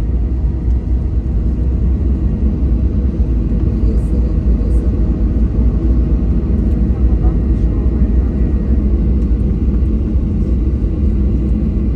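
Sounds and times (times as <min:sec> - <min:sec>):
airplane cabin low rumble: 0:00.0 - 0:11.9.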